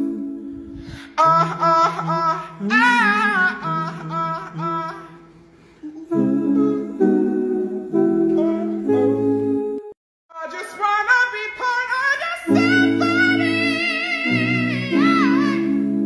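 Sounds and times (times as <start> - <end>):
a cappella group singing harmony: 0.0 - 5.2, 5.8 - 10.0, 11.8 - 16.0.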